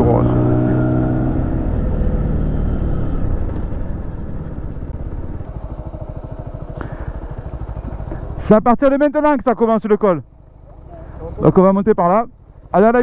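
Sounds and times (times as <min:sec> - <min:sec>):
motorcycle engine slowing: 0:00.0 - 0:13.0.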